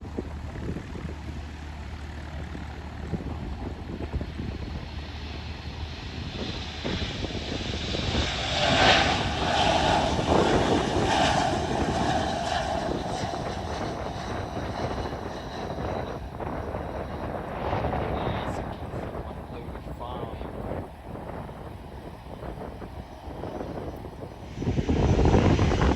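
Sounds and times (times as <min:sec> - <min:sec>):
jet aircraft passing: 0:00.0 - 0:25.9.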